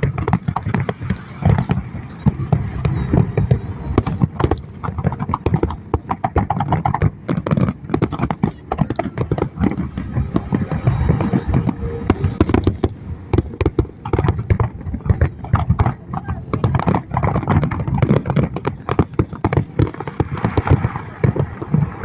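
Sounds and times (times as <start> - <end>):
fireworks cracking and banging: 0.0 - 22.0.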